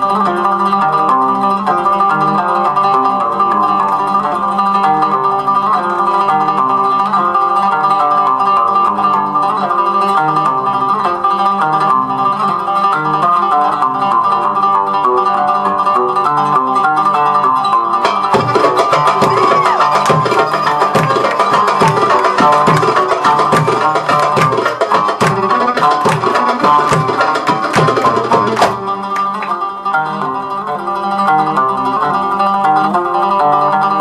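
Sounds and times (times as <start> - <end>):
oud plucked improvisation: 0.0 - 34.0.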